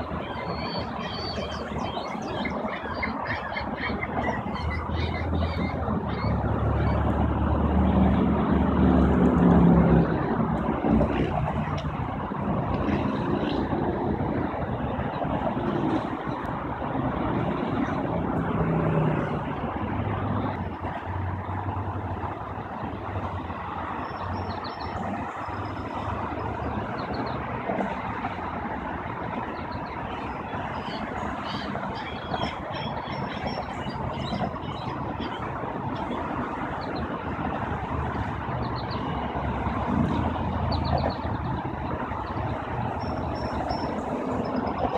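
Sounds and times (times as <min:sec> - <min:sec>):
motor traffic rumble: 0:00.0 - 0:44.9.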